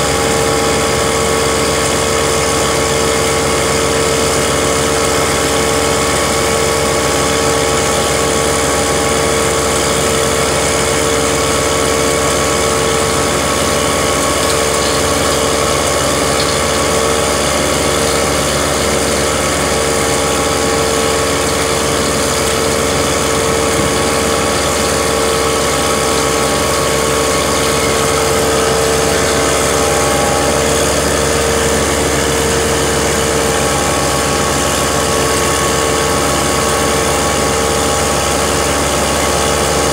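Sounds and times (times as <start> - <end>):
grinding machine running: 0.0 - 39.9
tractor engine under load: 0.0 - 39.9.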